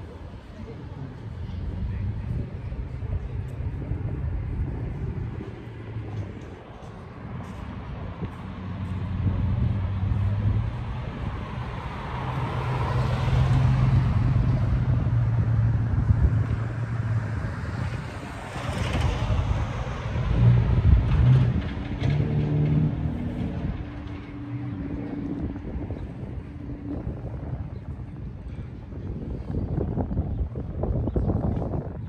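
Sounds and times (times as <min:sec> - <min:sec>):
car engines rumbling: 0:00.0 - 0:32.0.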